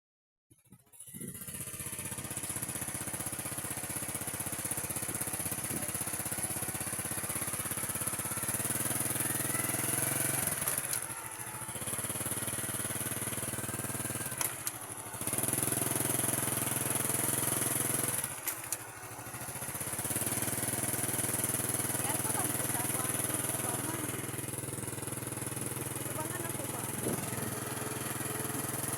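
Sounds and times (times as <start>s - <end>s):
small motorcycle engine running: 0.5s - 28.9s.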